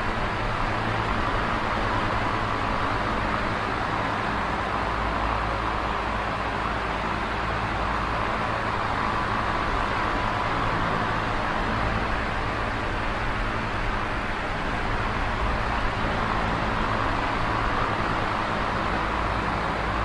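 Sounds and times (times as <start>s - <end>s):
electric fan whirring: 0.0s - 20.0s.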